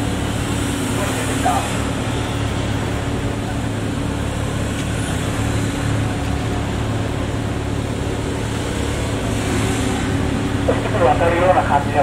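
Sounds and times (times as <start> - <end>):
cars passing close by: 0.0 - 12.0
steady low engine hum: 0.0 - 12.0.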